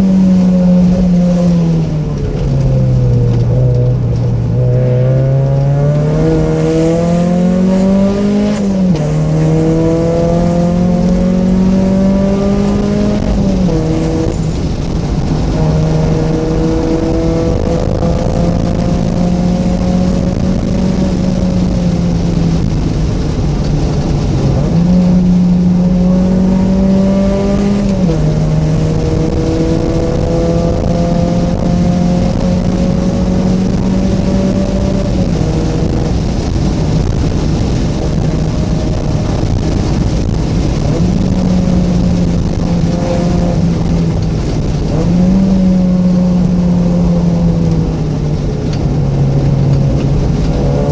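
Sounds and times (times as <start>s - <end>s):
car engine revving through gears: 0.0s - 50.9s.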